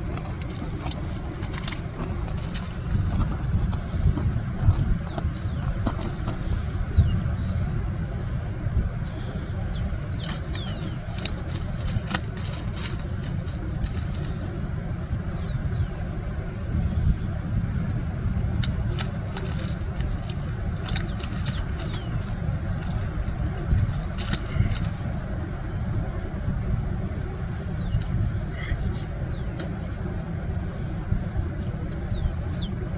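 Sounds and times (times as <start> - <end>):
steady low rumble: 0.0 - 32.9.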